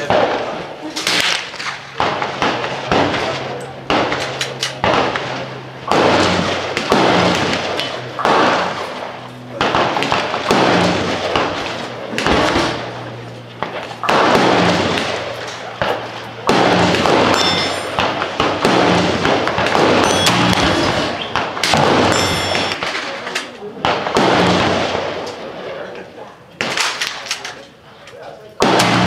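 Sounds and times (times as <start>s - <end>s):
gunshots echoing: 0.0s - 25.8s, 26.6s - 27.5s, 28.6s - 29.0s.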